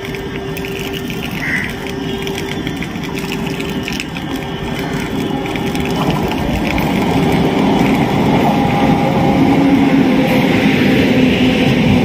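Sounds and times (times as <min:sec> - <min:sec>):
approaching train rumbling: 0:00.0 - 0:12.0
faint steady hums: 0:00.0 - 0:12.0.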